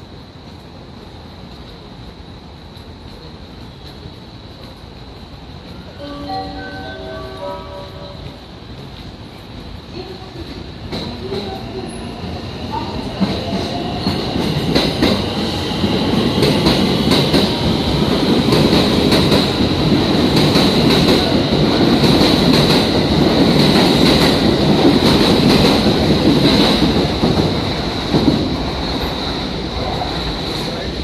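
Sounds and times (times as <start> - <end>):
train high whine: 1.8 - 31.0.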